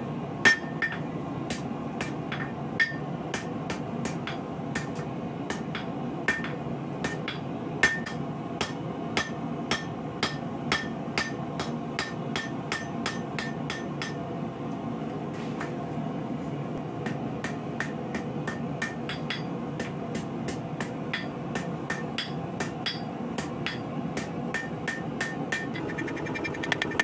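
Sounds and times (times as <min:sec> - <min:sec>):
hammer striking metal on anvil: 0:00.4 - 0:14.2, 0:17.0 - 0:27.0.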